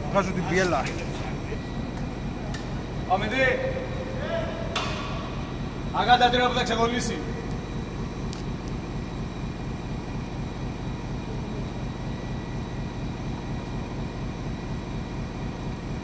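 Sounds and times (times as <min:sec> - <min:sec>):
machinery low hum: 0:00.0 - 0:16.0.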